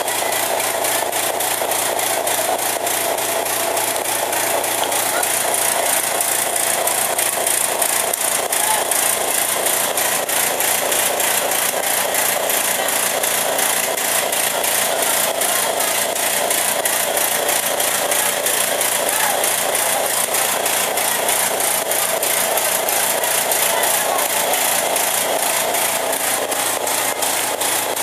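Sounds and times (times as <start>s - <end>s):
fire truck engine running: 0.0s - 28.0s.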